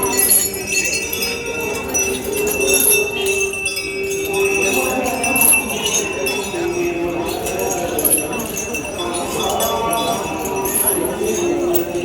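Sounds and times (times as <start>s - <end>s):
metal bells jingling: 0.0s - 12.0s.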